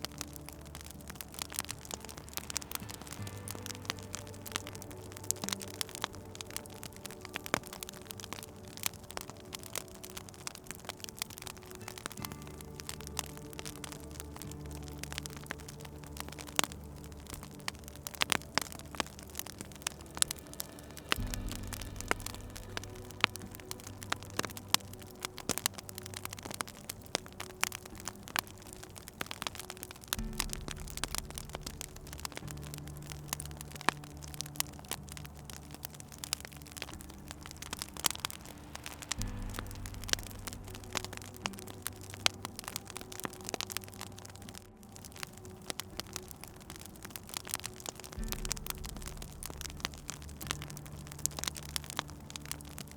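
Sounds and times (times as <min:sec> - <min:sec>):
low drone of held tones: 0:00.0 - 0:52.9
low hum: 0:00.0 - 0:52.9
wood fire crackling and popping: 0:00.0 - 0:52.9.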